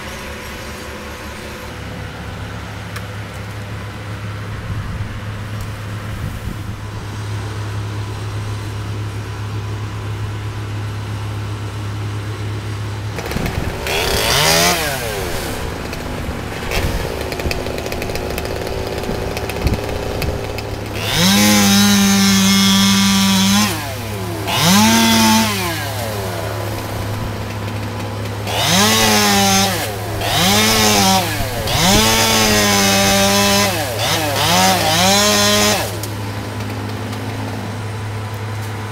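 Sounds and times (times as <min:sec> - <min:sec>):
chainsaw idling and revving: 0:00.0 - 0:04.4, 0:06.9 - 0:38.9.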